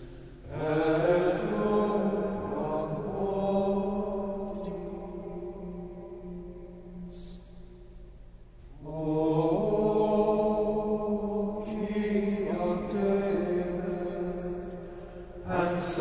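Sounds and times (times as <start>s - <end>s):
men singing plainchant in unison: 0.5s - 7.6s, 8.8s - 16.0s.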